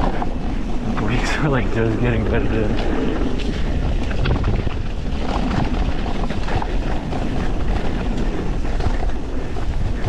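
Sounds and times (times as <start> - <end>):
bike clicks and clatters: 0.0 - 10.0
bike tyres rumbling: 0.0 - 10.0
wind buffeting microphone: 0.0 - 10.0.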